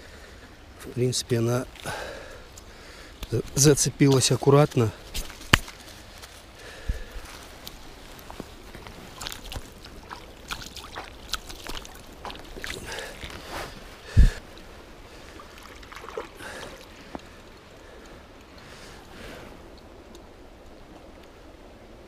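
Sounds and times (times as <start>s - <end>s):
mountain river running: 0.0s - 22.0s.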